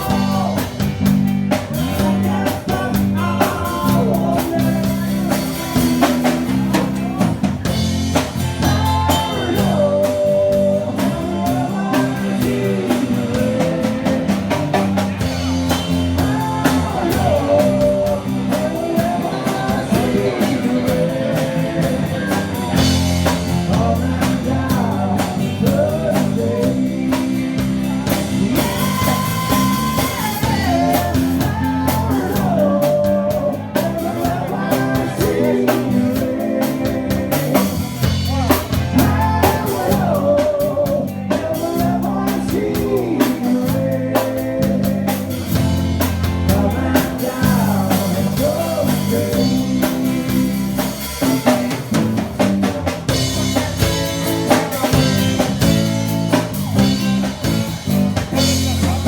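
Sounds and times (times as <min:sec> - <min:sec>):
lead singer singing: 0:00.0 - 0:59.0
rock band playing: 0:00.0 - 0:59.0.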